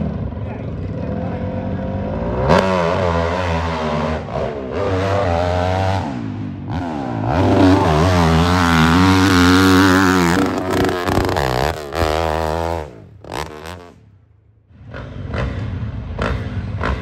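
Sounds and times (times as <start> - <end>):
dirt bike engine revving: 0.8 - 14.0, 14.8 - 17.0.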